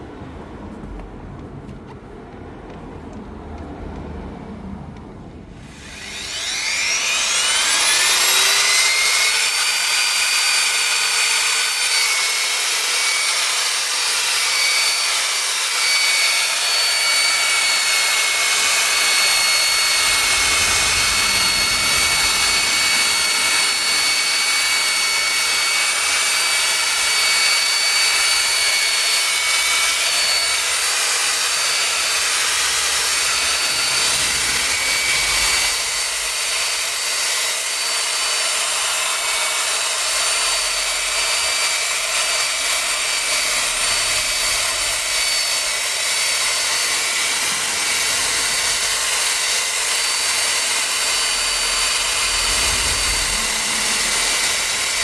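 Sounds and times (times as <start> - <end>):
power tool motor whining: 5.6 - 55.0.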